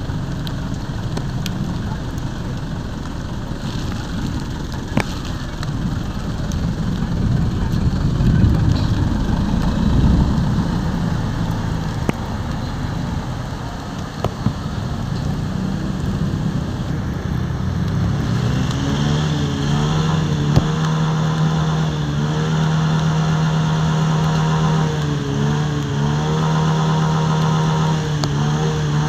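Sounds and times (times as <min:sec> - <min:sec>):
heavy rain hissing: 0:00.0 - 0:29.0
vehicle engine running: 0:00.0 - 0:29.0.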